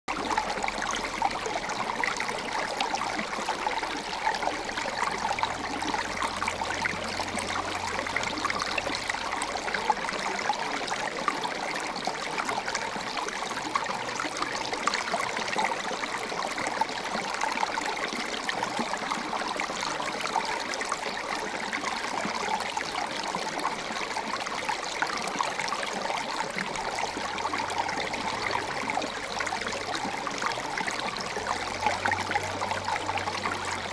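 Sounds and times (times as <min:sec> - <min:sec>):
creek trickling over rocks: 0:00.1 - 0:33.9.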